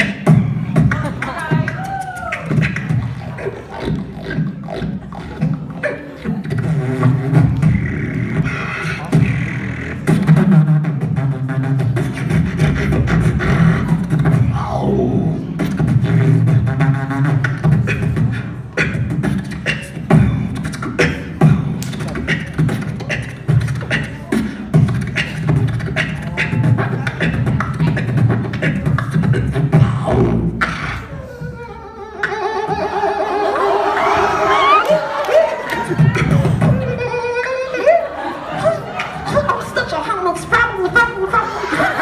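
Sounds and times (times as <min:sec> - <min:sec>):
beatboxing into microphone: 0:00.0 - 0:42.0
held bending vocal tones: 0:00.0 - 0:42.0.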